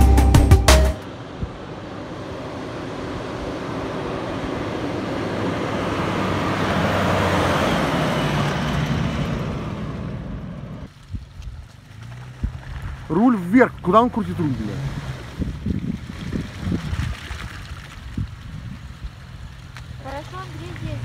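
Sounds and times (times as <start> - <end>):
car engine passing: 1.0 - 11.0, 11.7 - 21.0
tyres on loose ground: 1.0 - 21.0.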